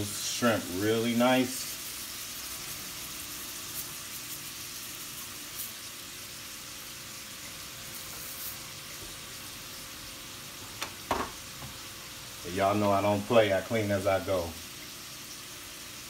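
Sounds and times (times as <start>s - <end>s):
shrimp sizzling in oil: 0.0s - 16.0s.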